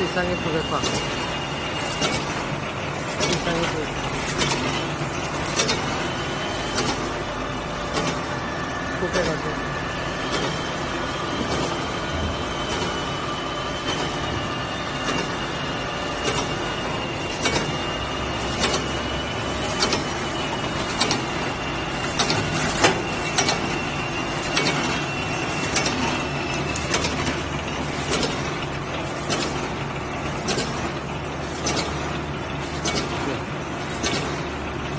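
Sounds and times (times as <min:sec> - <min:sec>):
packing machine clatter: 0:00.0 - 0:34.9
sharp machine clack: 0:00.1 - 0:34.9.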